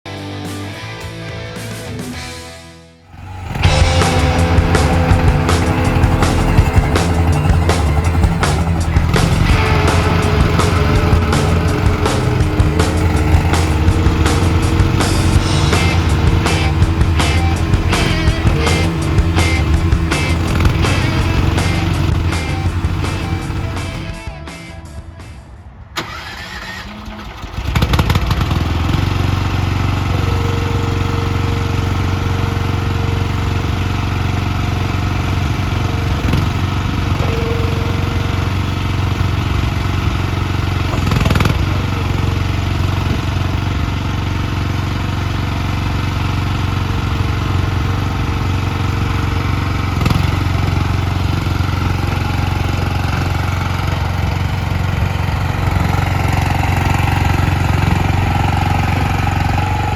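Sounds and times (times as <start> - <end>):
loader engine starting and idling: 3.1 - 59.9.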